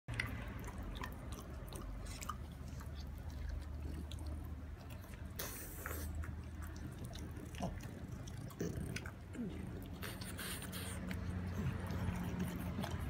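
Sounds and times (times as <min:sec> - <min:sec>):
dog chewing and crunching: 0:00.1 - 0:13.0.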